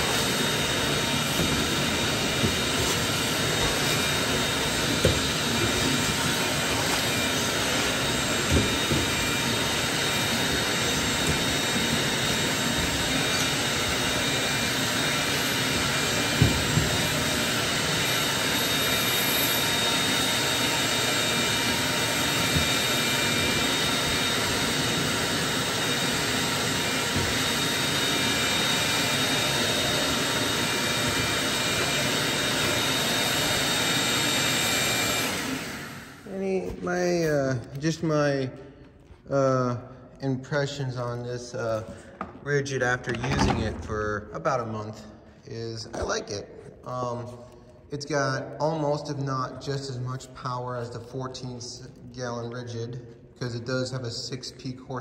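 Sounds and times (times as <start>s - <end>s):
shop vacuum running: 0.0s - 55.0s.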